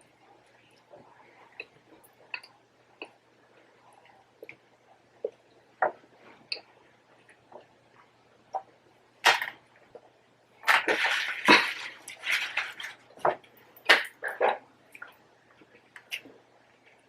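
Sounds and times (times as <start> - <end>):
crackly eating noise: 0.0 - 17.0.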